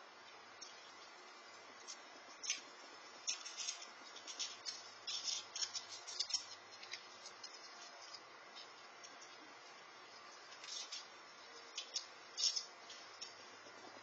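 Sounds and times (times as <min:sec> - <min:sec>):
faint steady hiss: 0:00.0 - 0:14.0
squirrels cracking peanut shells: 0:00.2 - 0:14.0.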